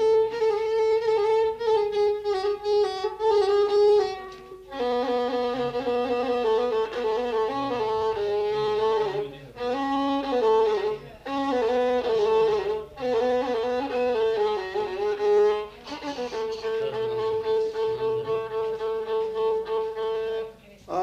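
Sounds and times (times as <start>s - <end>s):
instrumental melody: 0.0s - 21.0s.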